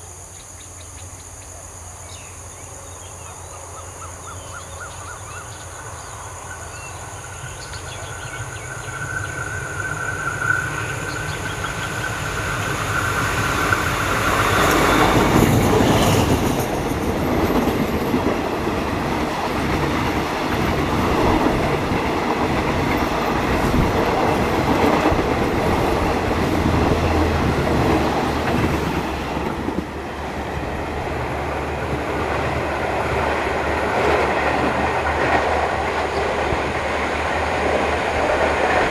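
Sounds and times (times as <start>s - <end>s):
diesel locomotive passing: 2.0s - 38.9s
train coaches clattering over rails: 4.8s - 38.9s.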